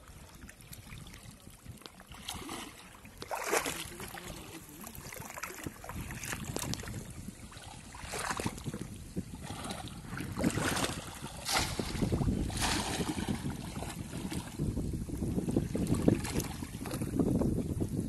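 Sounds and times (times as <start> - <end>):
water splashing and sloshing: 0.0 - 17.4
wind rumbling on microphone: 0.0 - 18.0.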